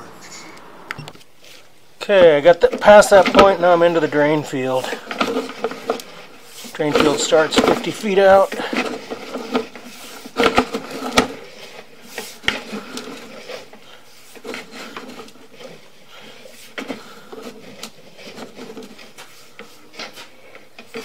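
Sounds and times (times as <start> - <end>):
cable rubbing and rattling in pipe: 1.4 - 21.0.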